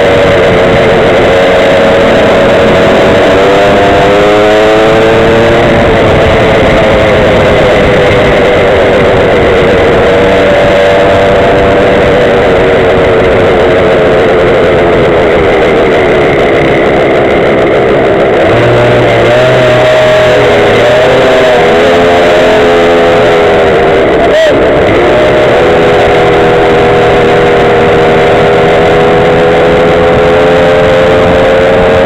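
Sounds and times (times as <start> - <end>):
small two-stroke engines: 0.0 - 32.0
steady rushing noise: 0.0 - 32.0.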